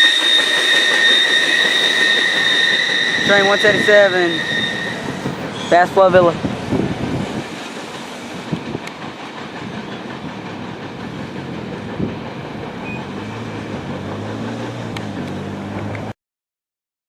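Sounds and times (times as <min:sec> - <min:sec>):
freight train rumbling on rails: 0:00.0 - 0:16.1.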